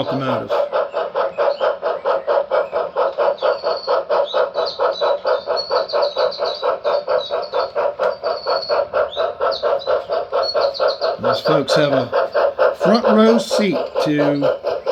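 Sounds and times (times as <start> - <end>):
high twittering chirps: 0.0 - 14.9
model steam train chuffs: 0.0 - 14.9.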